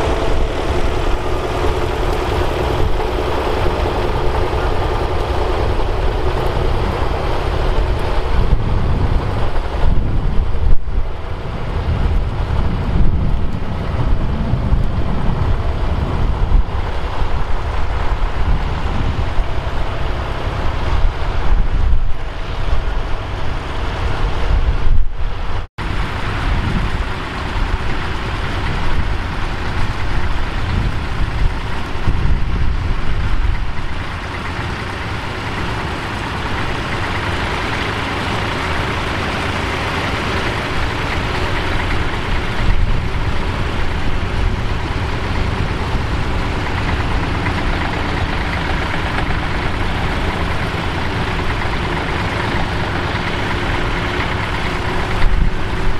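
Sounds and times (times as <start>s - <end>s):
tractor diesel engine running: 0.0s - 55.9s
wind gusts on microphone: 0.0s - 55.9s.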